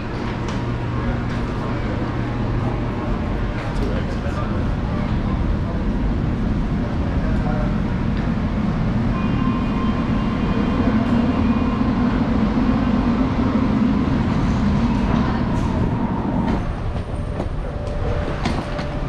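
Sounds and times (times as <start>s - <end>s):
train rumbling with faint whine: 0.0s - 19.0s.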